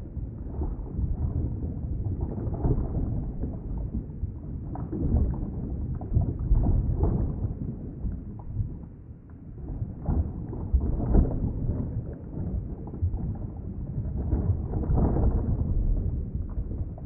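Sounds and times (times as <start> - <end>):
low rumble of moving water: 0.0 - 17.0.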